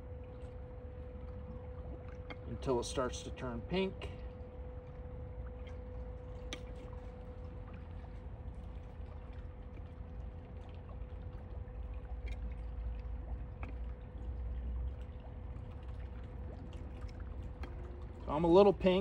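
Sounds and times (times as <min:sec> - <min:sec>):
faint steady hum: 0:00.0 - 0:19.0
low outdoor rumble: 0:00.0 - 0:19.0.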